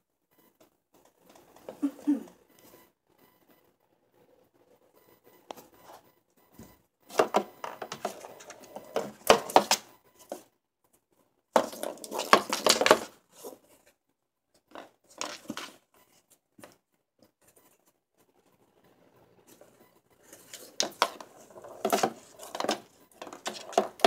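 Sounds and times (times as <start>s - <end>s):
balls clicking and scratching in box: 0.3s - 6.1s, 7.0s - 24.0s.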